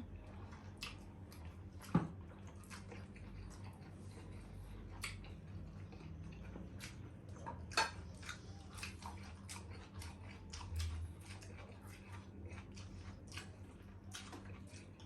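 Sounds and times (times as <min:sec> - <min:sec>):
faint low hum: 0:00.0 - 0:15.0
person chewing with wet smacks: 0:00.0 - 0:15.0.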